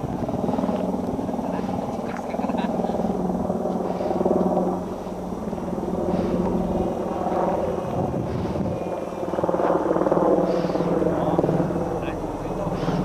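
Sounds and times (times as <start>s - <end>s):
model airplane engine in flight: 0.0s - 13.0s.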